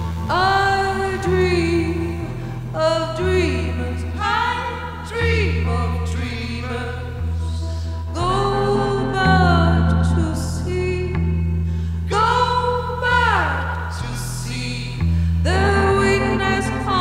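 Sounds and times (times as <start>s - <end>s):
woman singing into a microphone: 0.0s - 11.5s, 12.1s - 17.0s
band music: 0.0s - 17.0s
low sustained bass notes: 0.0s - 17.0s.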